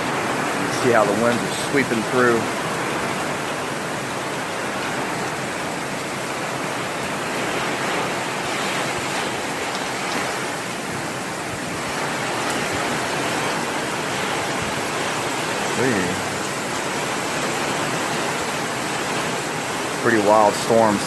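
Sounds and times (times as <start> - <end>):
gusting wind: 0.0 - 21.0
torrential rain: 0.0 - 21.0.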